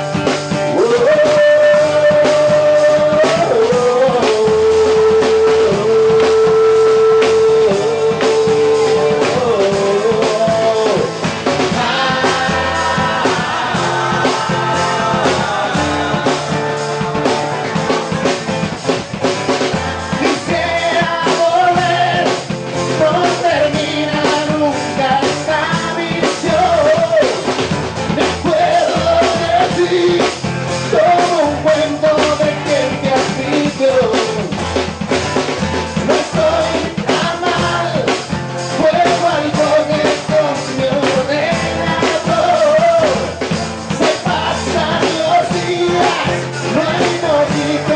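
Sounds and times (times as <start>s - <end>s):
man singing: 0.0s - 34.8s, 35.8s - 47.9s
live band playing: 0.0s - 47.9s.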